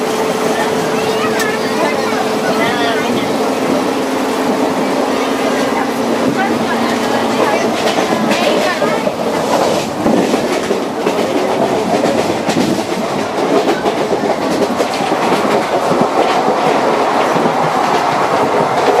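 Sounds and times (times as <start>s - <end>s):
train rattling rumble: 0.0s - 19.0s
wheels clacking over rail joints: 0.0s - 19.0s.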